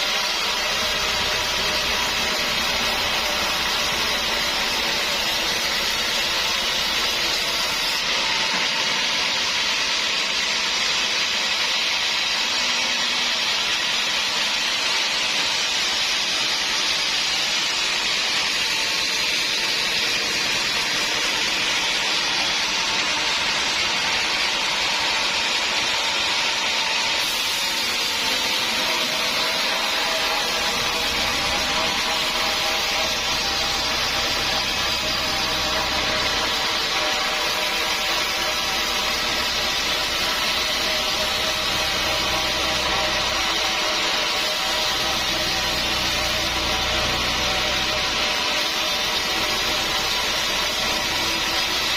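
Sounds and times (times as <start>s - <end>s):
saw cutting wood: 0.0s - 51.9s.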